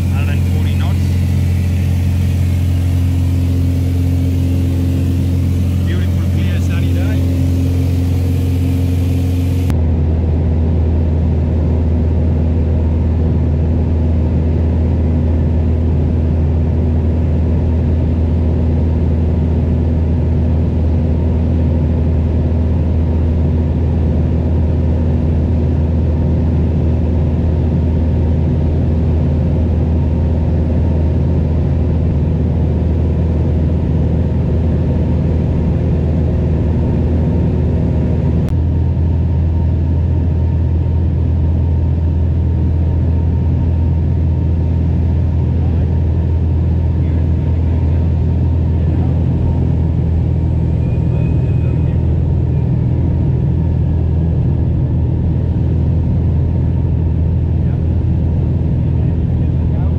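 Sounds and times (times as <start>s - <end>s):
plane engine droning in cabin: 0.0s - 59.9s.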